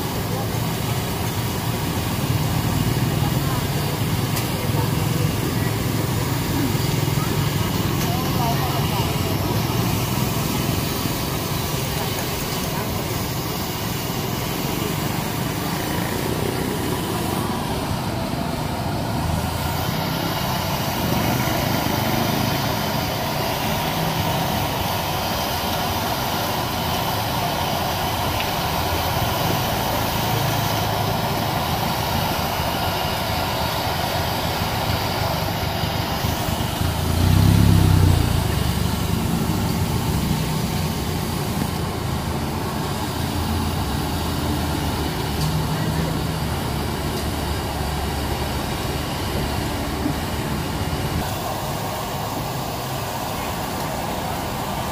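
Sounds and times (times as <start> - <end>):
deep-frying sizzle: 0.0 - 54.9
gas burner roar: 0.0 - 54.9.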